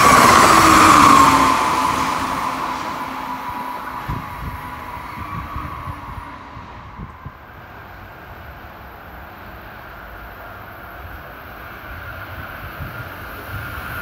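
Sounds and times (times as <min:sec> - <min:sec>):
wind buffeting microphone: 0:00.0 - 0:08.8, 0:11.0 - 0:14.0
electric train approaching: 0:00.0 - 0:14.0.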